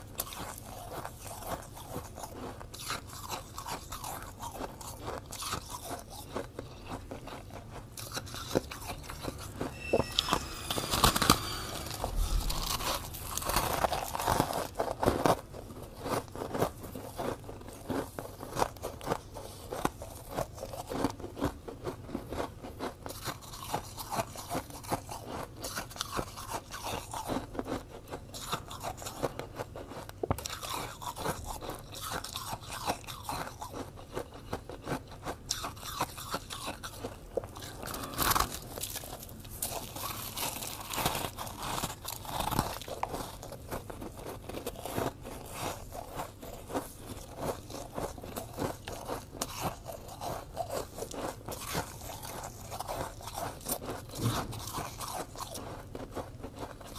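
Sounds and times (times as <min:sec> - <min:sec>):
ice being chewed crunching: 0:00.0 - 0:56.9.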